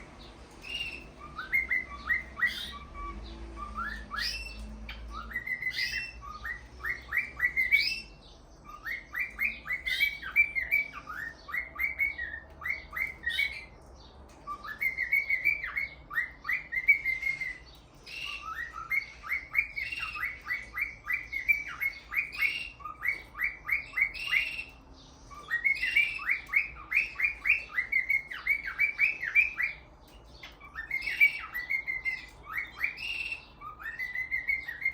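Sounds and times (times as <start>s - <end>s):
cockatiel chirping: 0.5s - 13.8s, 14.4s - 34.9s.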